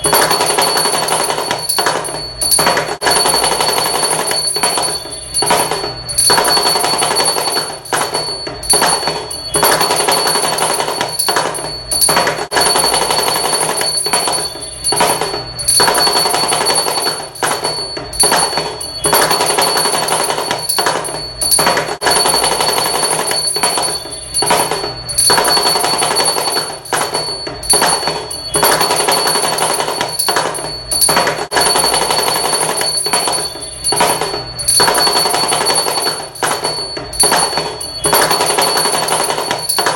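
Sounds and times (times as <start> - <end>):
steady high ringing: 0.0 - 39.9.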